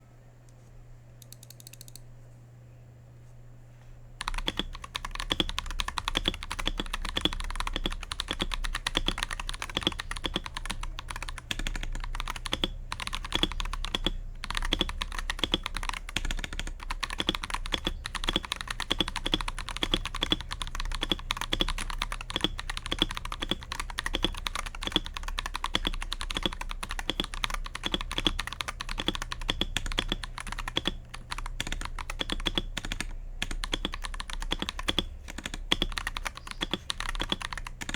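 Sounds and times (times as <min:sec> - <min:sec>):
mechanical keyboard typing: 0:01.2 - 0:02.0, 0:04.2 - 0:37.9.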